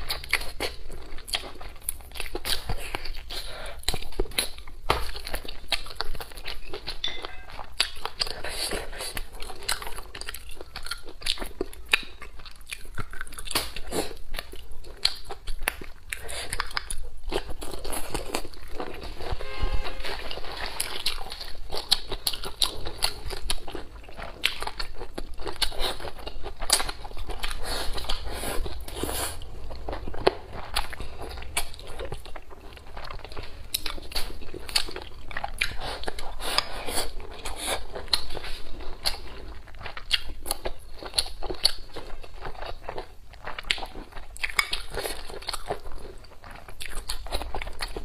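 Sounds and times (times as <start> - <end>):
chewing with wet clicks: 0.0 - 19.3, 20.3 - 48.0.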